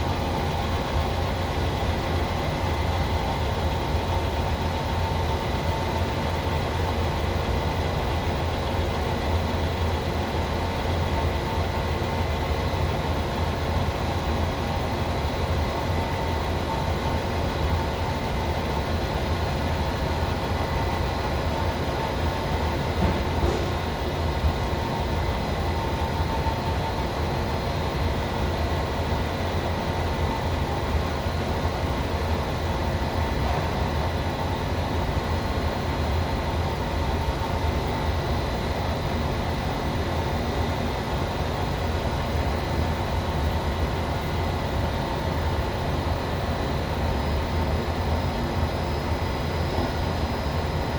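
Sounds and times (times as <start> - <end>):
machine spindle drone: 0.0 - 50.9.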